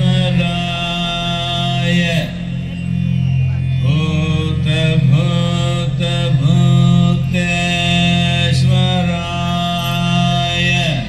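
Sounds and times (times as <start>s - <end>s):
low drone: 0.0s - 11.0s
person chanting long notes: 0.0s - 11.0s.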